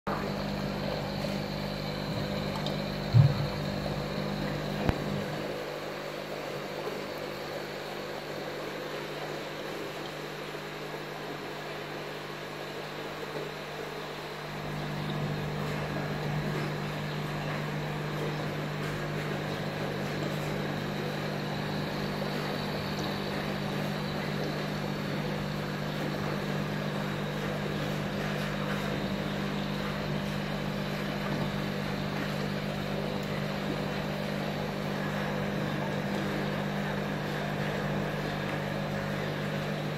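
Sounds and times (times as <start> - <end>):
aquarium air pump and filter hum: 0.1 - 39.9.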